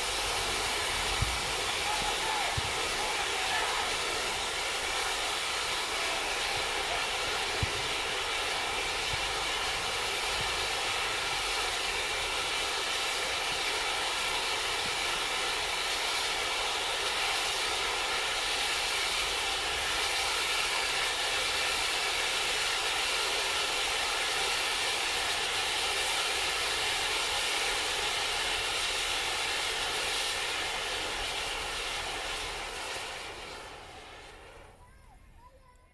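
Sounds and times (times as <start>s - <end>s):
rushing hiss of sparks: 0.0s - 35.1s.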